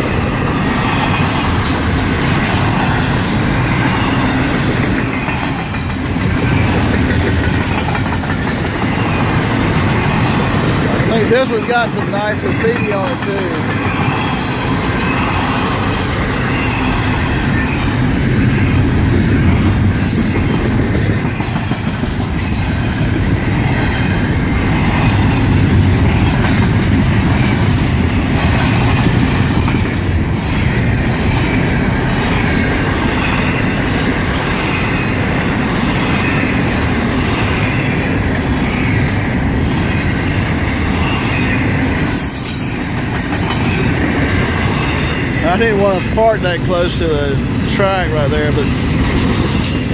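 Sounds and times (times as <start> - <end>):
freight train rolling past: 0.0 - 49.9.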